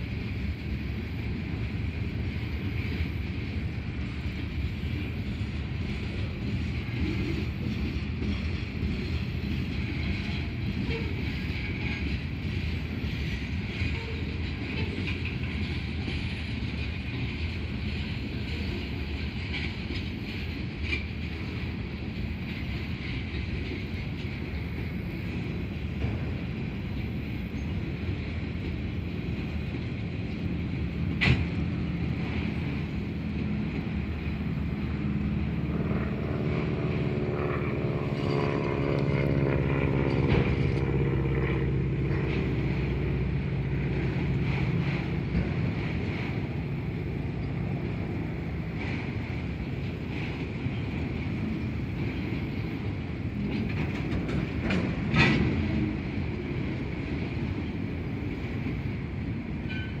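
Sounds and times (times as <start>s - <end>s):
droning engine hum: 0.0s - 60.0s
train wheels rumbling and rattling: 0.0s - 60.0s.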